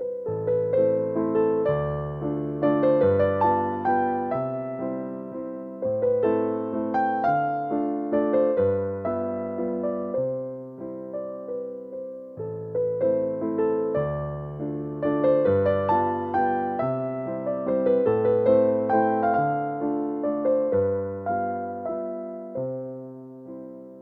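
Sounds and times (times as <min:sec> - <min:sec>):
gentle piano piece: 0:00.0 - 0:24.0.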